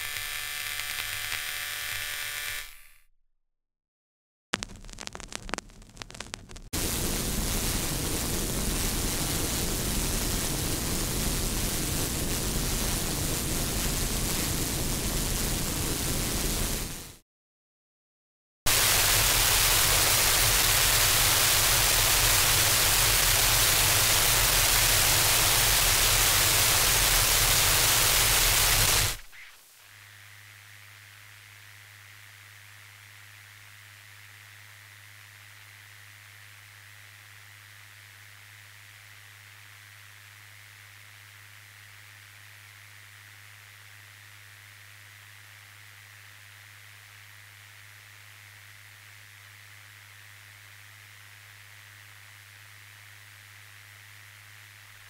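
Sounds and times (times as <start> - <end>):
crackly static with clicks: 4.6 - 15.8, 18.7 - 55.0
white noise hiss: 6.4 - 17.2, 18.7 - 55.0.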